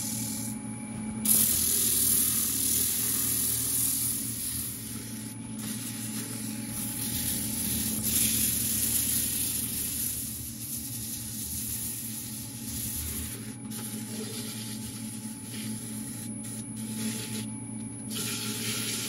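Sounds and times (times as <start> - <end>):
hiss of hand sanding: 1.3 - 17.5.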